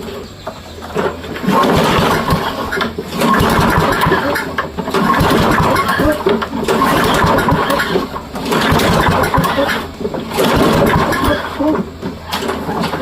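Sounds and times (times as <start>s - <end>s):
lawn mower engine running roughly: 0.0s - 13.0s.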